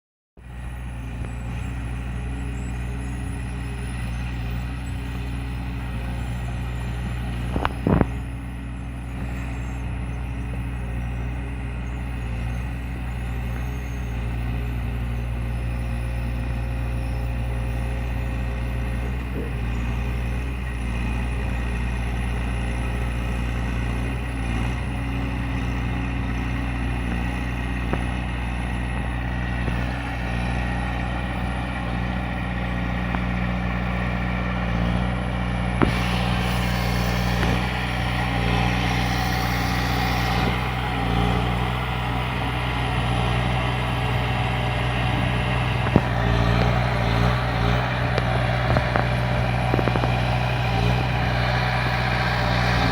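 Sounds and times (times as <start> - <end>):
engine droning: 0.4 - 52.9.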